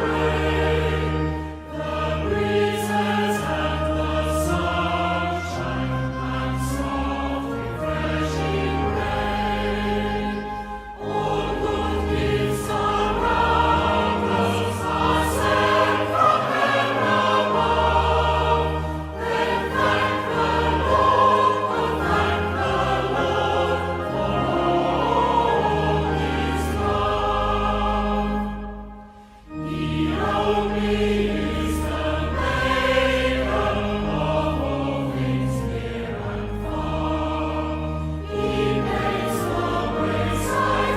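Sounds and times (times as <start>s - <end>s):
many voices singing a hymn: 0.0s - 40.9s
sustained accompanying chords: 0.0s - 40.9s.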